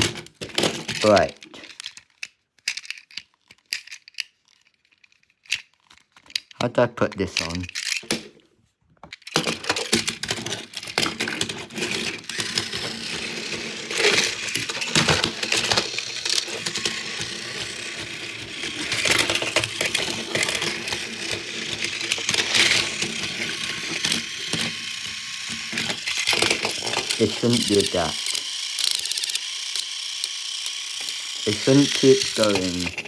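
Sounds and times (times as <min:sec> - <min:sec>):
toy train motor clicking and rattling: 0:00.0 - 0:08.3, 0:09.0 - 0:33.0.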